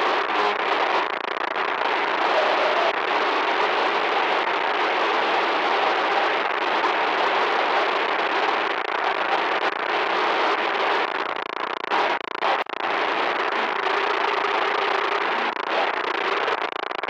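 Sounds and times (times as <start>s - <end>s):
static hiss crackling: 0.0s - 17.0s.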